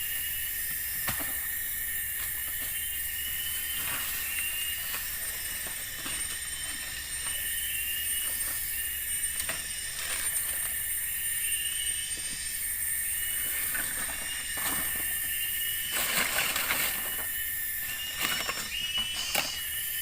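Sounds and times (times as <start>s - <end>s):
insects calling in high tones: 0.0s - 20.0s.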